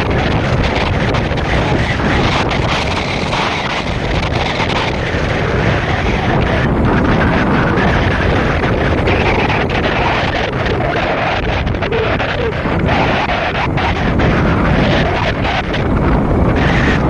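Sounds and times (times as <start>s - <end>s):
low rumble of vehicle on road: 0.0s - 17.0s
wind buffeting microphone: 0.0s - 17.0s.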